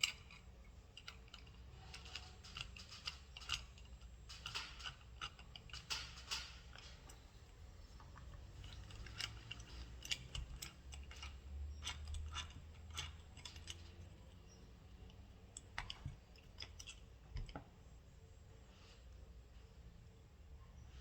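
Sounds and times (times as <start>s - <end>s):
small metal parts clicking: 0.0s - 17.7s.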